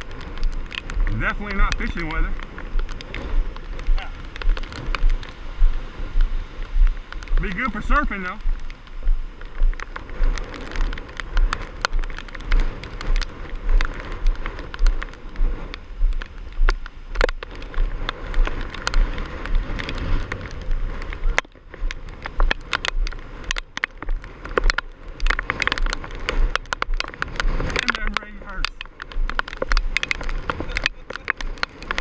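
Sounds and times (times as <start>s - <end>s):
rain pattering on microphone: 0.0s - 32.0s
wind gusts buffeting microphone: 0.0s - 32.0s.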